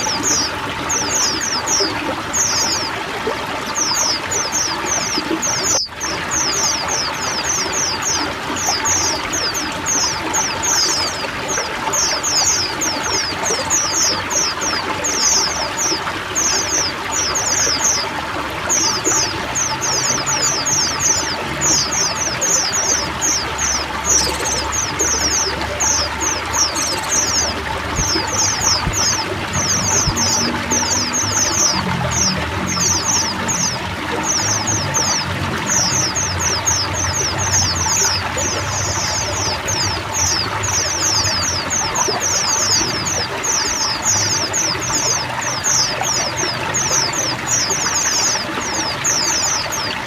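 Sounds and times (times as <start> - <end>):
chorus of birds chirping: 0.0 - 50.0
water trickling and pouring: 0.0 - 50.0.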